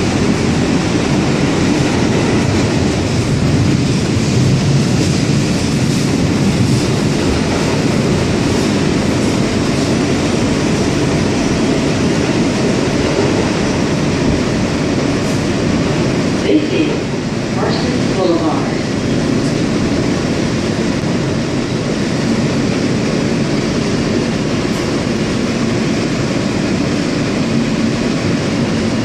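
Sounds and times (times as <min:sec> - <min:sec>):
subway wheels rumbling on rail: 0:00.0 - 0:29.0.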